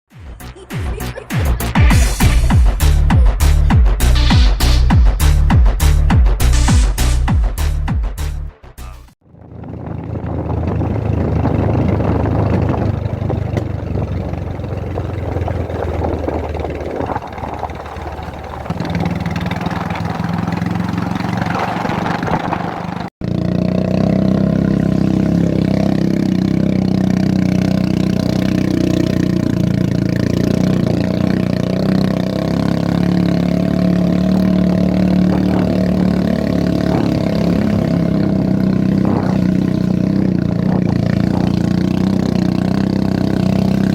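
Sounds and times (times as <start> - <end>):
motorcycle engine running: 0.1 - 7.6, 9.2 - 43.9.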